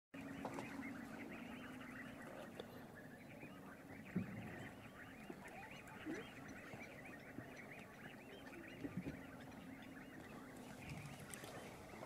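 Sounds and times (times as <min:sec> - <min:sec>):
flock of birds chattering: 0:00.2 - 0:12.0
low steady hum: 0:00.2 - 0:12.0.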